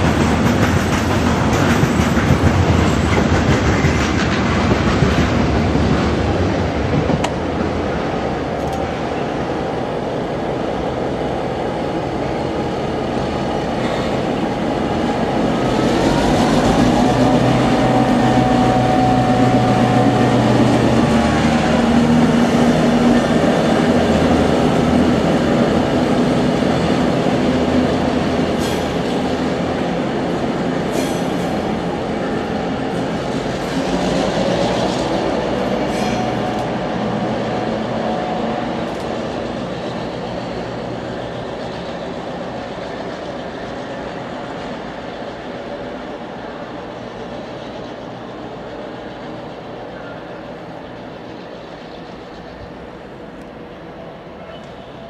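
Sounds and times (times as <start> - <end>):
diesel locomotive engine working hard: 0.0 - 55.0.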